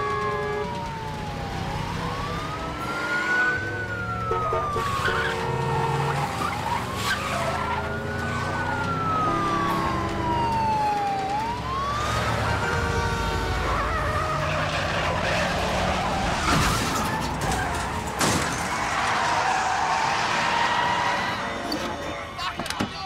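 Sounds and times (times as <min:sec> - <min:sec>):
police siren wailing: 0:00.0 - 0:23.0
speeding car engines and tyres: 0:00.0 - 0:23.0.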